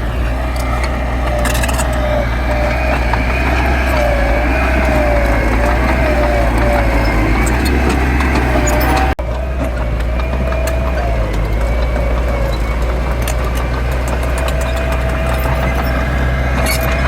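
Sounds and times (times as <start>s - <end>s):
heavy diesel machinery engine drone: 0.0s - 17.0s.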